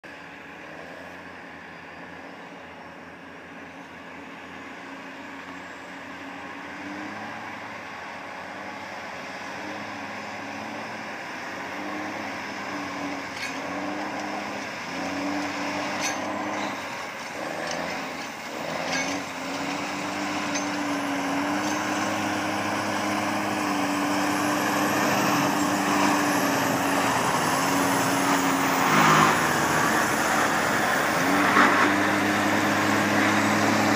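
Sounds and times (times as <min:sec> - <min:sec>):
diesel truck engines working hard: 0:00.0 - 0:33.9.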